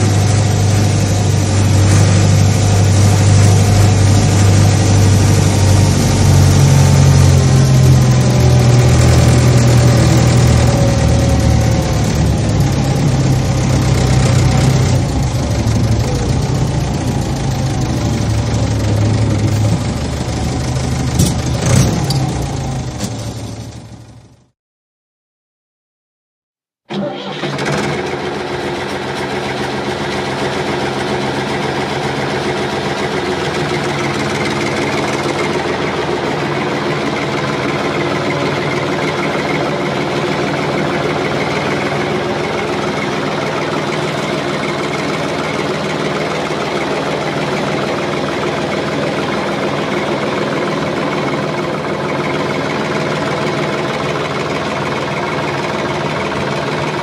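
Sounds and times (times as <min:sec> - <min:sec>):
large diesel engine running: 0:00.0 - 0:24.5, 0:26.9 - 0:57.0.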